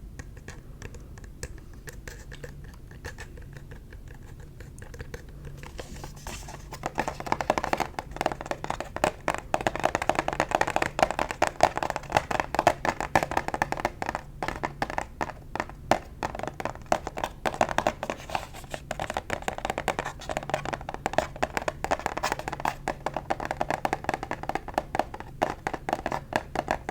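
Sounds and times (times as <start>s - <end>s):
fingernails tapping on plastic container: 0.2s - 26.9s.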